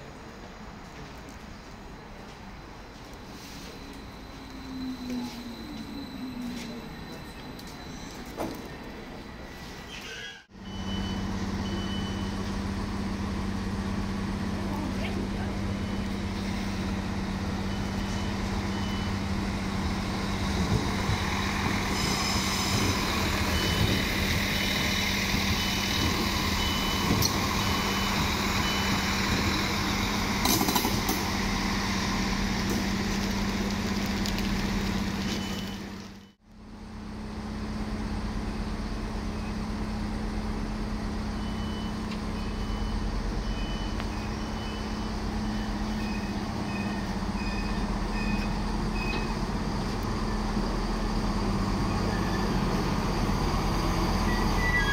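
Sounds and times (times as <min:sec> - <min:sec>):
rail and wheel noise: 0:00.0 - 0:54.9
railcar engine hum: 0:00.0 - 0:54.9.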